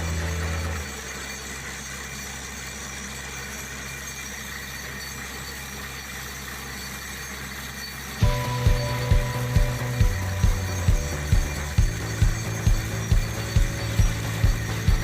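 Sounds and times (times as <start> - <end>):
drilling rig machinery drone: 0.0 - 15.0
rhythmic clatter: 0.0 - 15.0.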